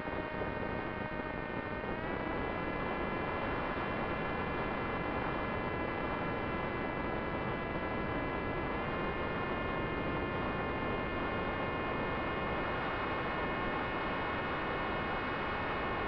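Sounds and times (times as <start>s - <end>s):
drone motor and propeller whine: 0.0s - 15.8s.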